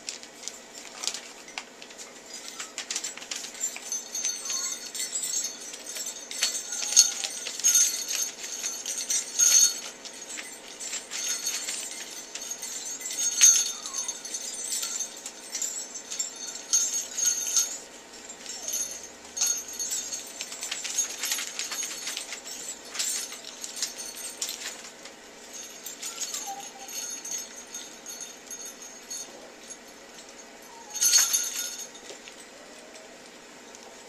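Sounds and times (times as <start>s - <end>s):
sleigh bells jingling: 0.0s - 33.0s.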